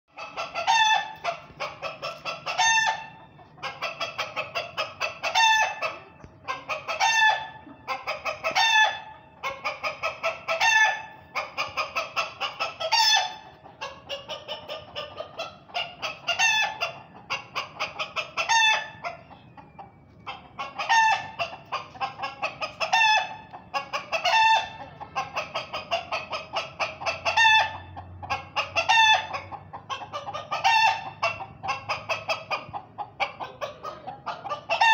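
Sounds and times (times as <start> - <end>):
hen cackling: 0.1 - 34.9.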